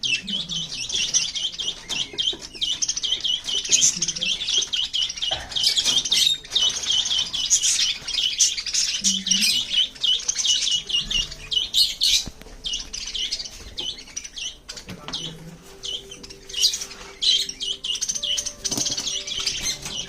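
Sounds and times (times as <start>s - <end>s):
budgerigars chirping: 0.0s - 20.0s.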